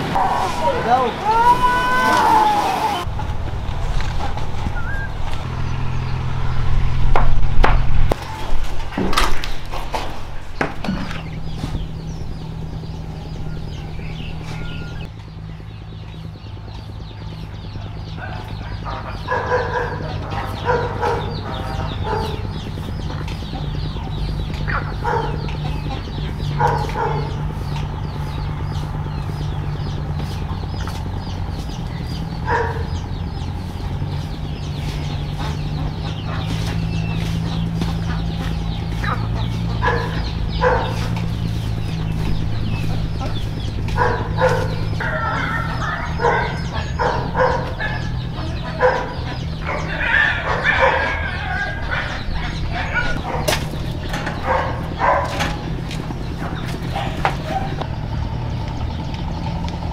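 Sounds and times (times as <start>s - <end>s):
steady low hum: 2.8s - 59.9s
chickens clucking: 7.1s - 59.9s.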